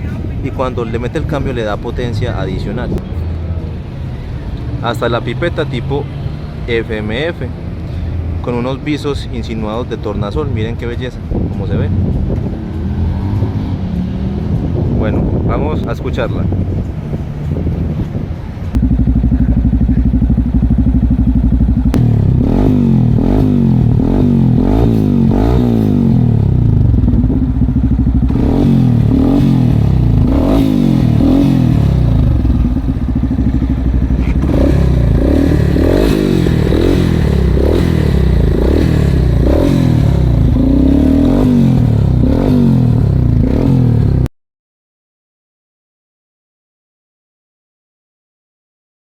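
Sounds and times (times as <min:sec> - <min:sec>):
motorcycle engine idling and revving: 0:00.0 - 0:08.4, 0:10.3 - 0:44.3.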